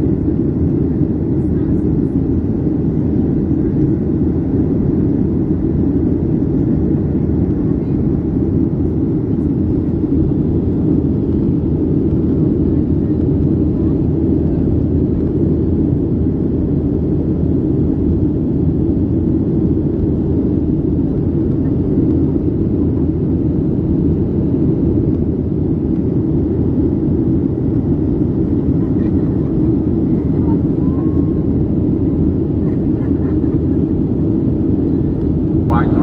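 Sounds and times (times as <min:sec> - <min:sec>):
airliner cabin engine drone: 0:00.0 - 0:36.0.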